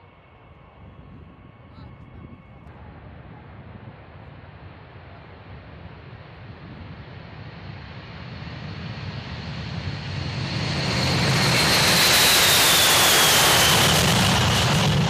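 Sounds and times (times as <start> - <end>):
jet engines at takeoff thrust: 0.0 - 15.0.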